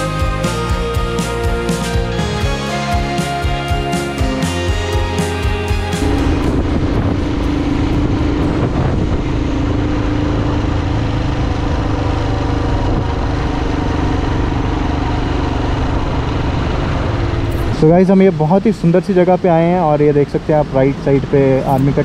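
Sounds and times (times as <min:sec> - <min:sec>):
motorcycle engine running steadily: 0:00.0 - 0:22.0.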